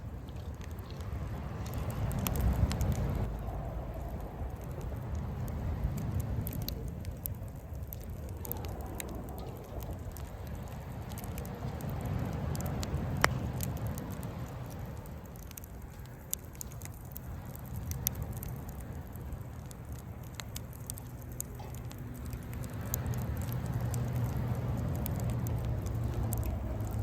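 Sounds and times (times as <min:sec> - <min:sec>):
campfire crackling and popping: 0:00.0 - 0:27.0
low steady rumble: 0:00.0 - 0:27.0.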